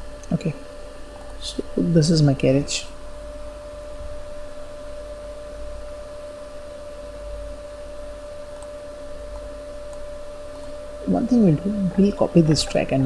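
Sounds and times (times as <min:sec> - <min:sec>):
background hum and hiss: 0:00.0 - 0:13.0
constant mid-pitched tone: 0:00.0 - 0:13.0.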